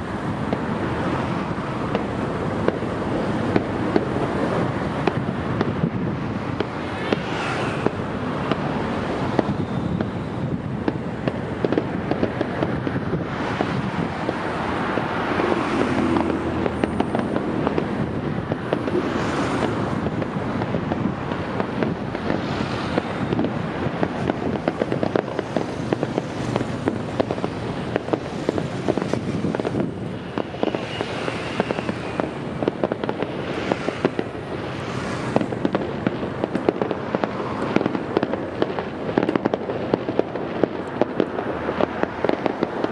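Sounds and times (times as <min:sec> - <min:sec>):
fireworks banging and crackling: 0:00.0 - 0:42.9.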